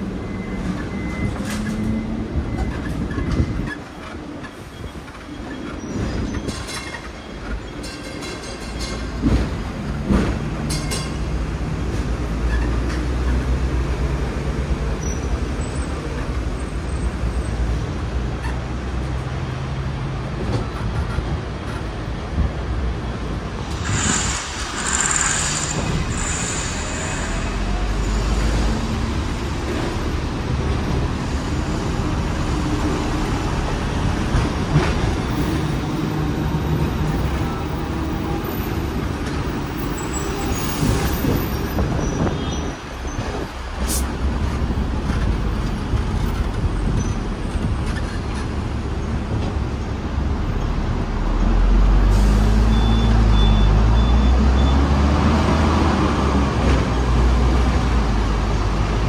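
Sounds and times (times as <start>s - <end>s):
street traffic: 0.0s - 59.0s
tram rumbling on rails: 0.0s - 59.0s.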